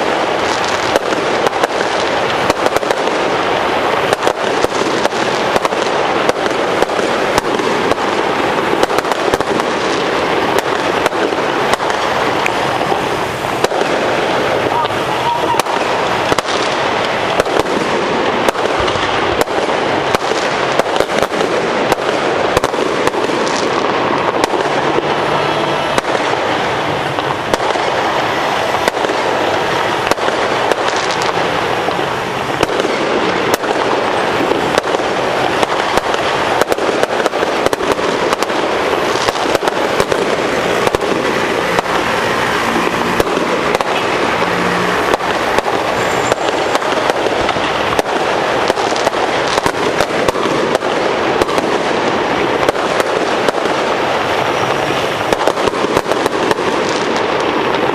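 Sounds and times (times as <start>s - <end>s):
fireworks crackling and popping: 0.0s - 57.9s.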